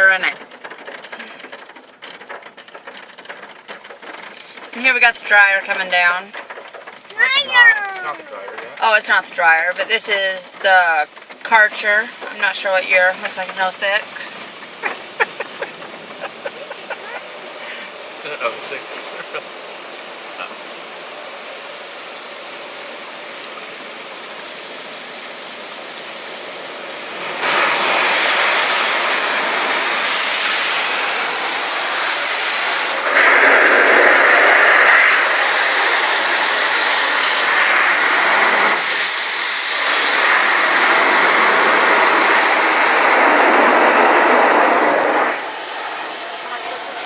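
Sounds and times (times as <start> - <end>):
car wash water jets spraying: 0.0 - 47.0.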